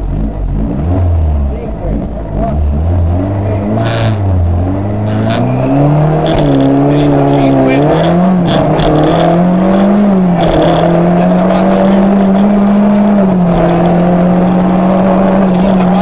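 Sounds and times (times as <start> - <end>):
rally car engine under load: 0.0 - 16.0.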